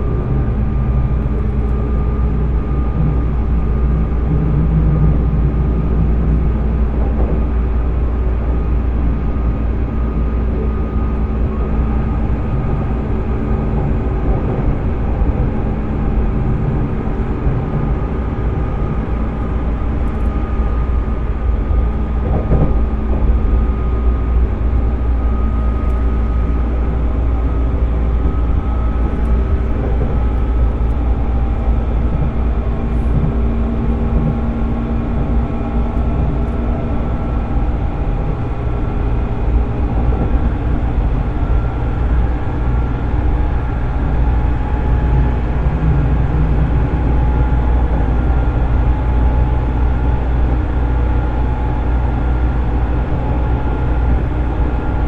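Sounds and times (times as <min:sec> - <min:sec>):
train traction motors humming: 0:00.0 - 0:55.0
wheels rumbling on rail: 0:00.0 - 0:55.0.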